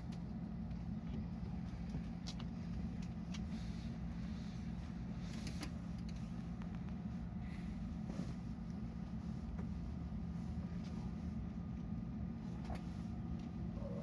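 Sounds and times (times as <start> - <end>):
electric train equipment hum: 0.0 - 14.0.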